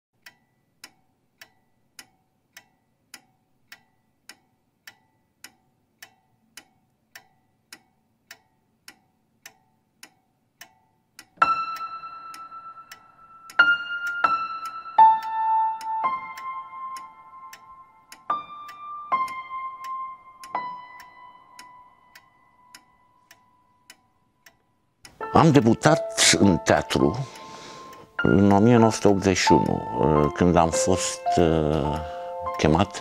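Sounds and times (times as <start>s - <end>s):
pendulum clock ticking: 0.2s - 33.0s.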